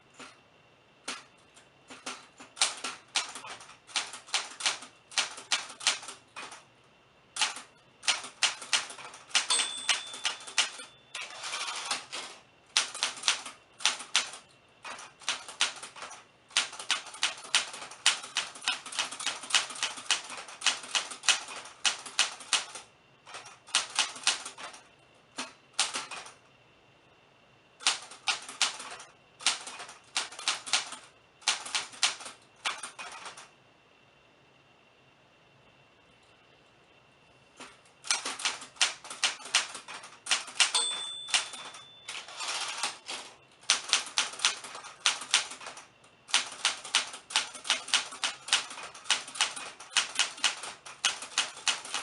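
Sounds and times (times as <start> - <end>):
typewriter keys striking: 1.9 - 6.6, 7.4 - 24.8, 27.8 - 33.4, 37.6 - 52.0.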